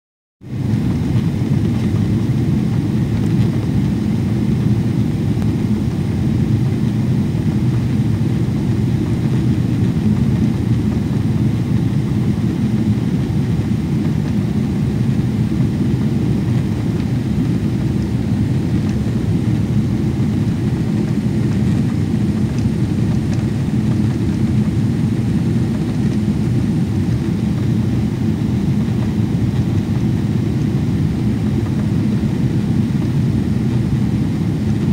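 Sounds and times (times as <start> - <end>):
jet airliner cabin rumble: 0.5 - 34.9.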